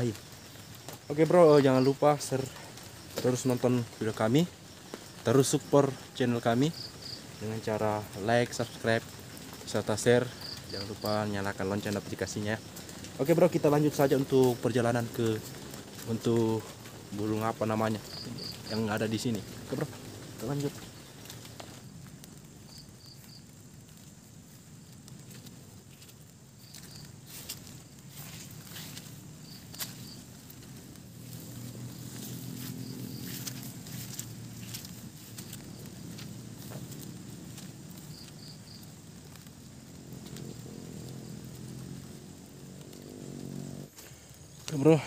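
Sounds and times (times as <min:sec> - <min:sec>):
footsteps on a trail: 0:00.0 - 0:45.0
insects chirping: 0:00.0 - 0:45.0
outdoor hiss: 0:00.0 - 0:45.0
constant low rumble: 0:06.8 - 0:44.5.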